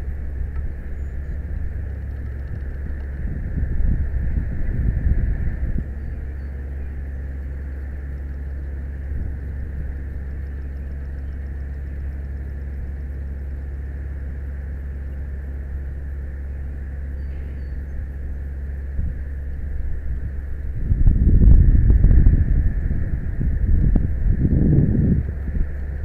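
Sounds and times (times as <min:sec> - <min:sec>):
fire truck engine rumbling: 0:00.0 - 0:26.0.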